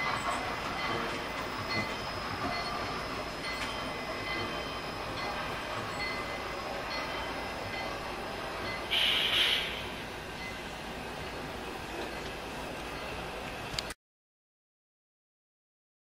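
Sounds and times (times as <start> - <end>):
model train running: 0.0 - 14.0.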